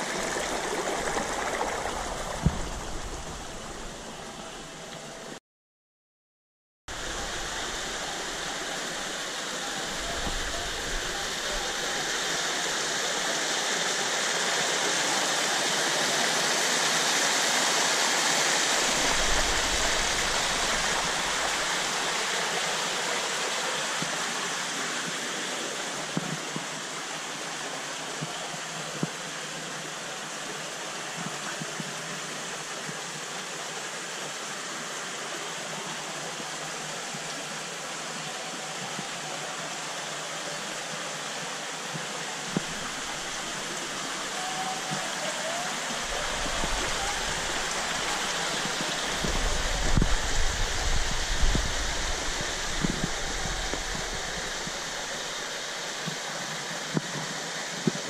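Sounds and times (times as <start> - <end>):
water rushing over rocks: 0.0 - 5.4, 6.9 - 58.0.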